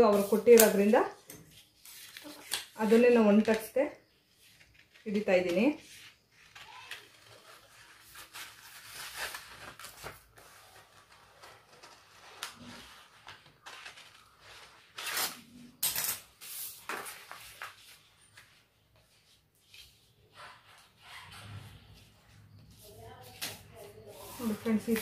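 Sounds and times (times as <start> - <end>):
paper rustling on stone floor: 0.0 - 20.9, 22.2 - 25.0.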